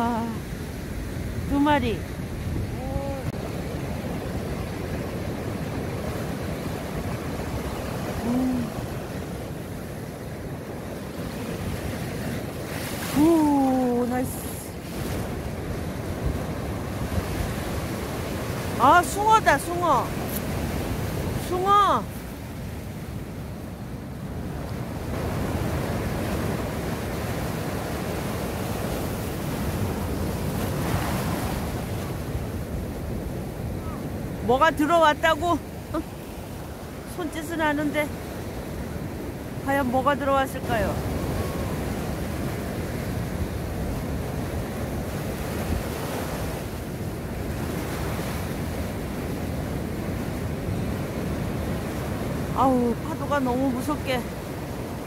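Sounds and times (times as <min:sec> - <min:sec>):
surf breaking on a beach: 0:00.0 - 0:55.0.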